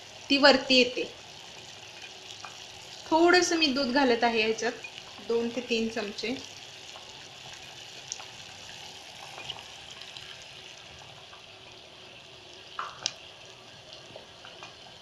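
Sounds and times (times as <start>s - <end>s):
syrup boiling and bubbling: 0.0s - 15.0s.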